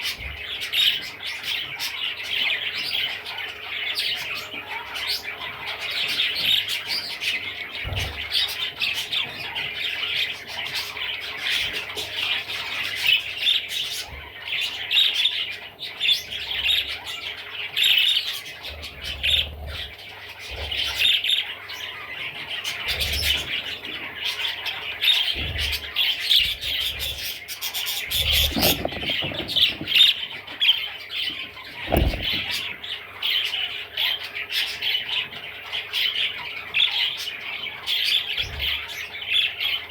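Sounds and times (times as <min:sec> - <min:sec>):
budgerigar chattering and warbling: 0:00.0 - 0:39.9.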